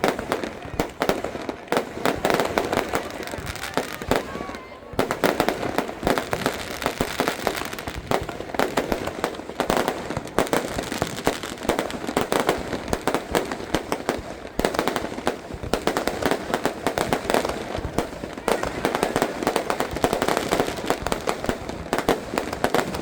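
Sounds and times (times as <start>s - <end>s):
fireworks and firecrackers banging: 0.0s - 23.0s.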